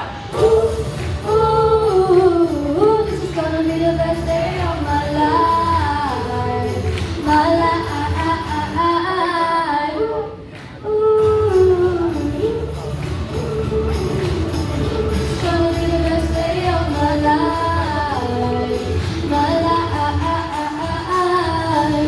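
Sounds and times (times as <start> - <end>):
woman singing slow song: 0.3 - 22.0.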